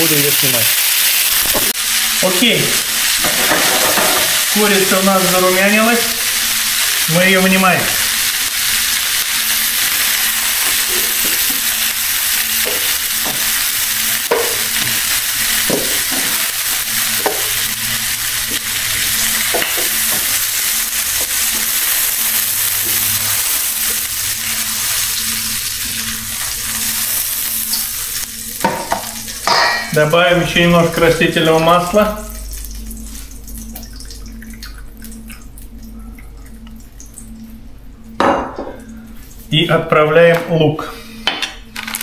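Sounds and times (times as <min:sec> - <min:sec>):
chicken frying in hot oil: 0:00.0 - 0:34.8.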